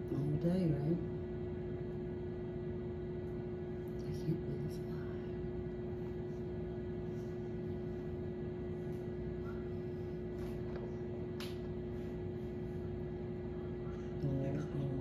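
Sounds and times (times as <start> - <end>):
fan motor humming: 0.0 - 15.0.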